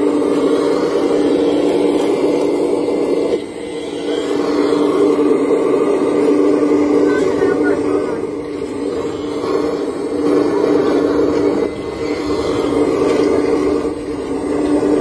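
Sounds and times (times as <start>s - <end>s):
model excavator motor whirring: 0.0s - 15.0s.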